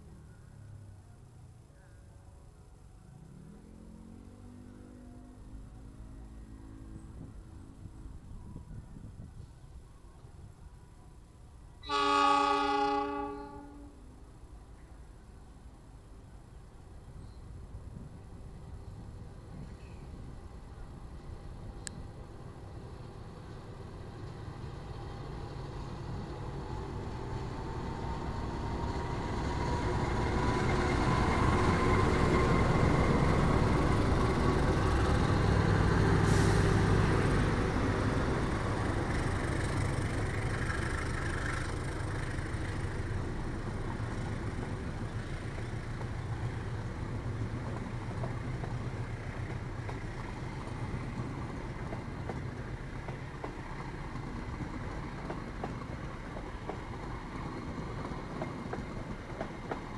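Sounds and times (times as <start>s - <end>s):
road traffic engines: 0.0s - 11.7s, 14.1s - 59.9s.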